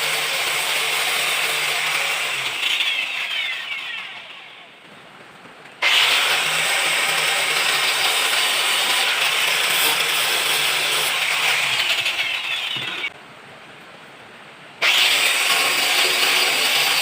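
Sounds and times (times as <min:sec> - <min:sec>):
electric power tool humming: 0:00.0 - 0:04.4, 0:05.8 - 0:13.1, 0:14.8 - 0:17.0.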